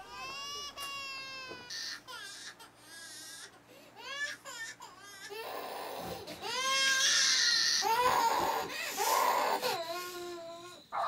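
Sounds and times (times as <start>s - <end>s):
baby crying: 0.0s - 11.0s.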